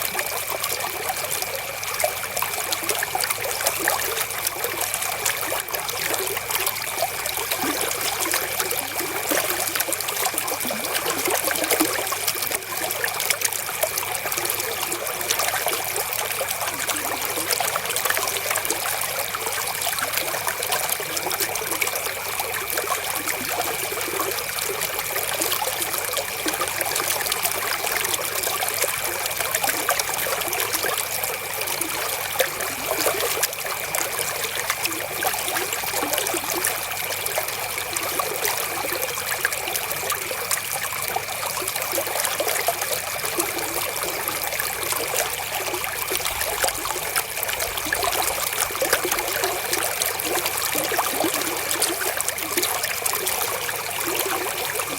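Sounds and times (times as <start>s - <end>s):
river water trickling over stones: 0.0s - 54.9s.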